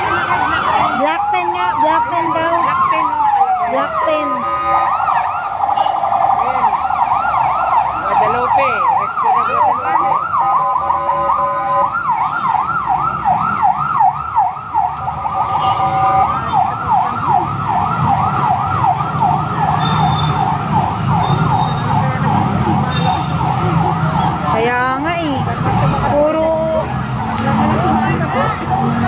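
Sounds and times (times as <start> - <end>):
emergency siren yelping: 0.0 - 29.0.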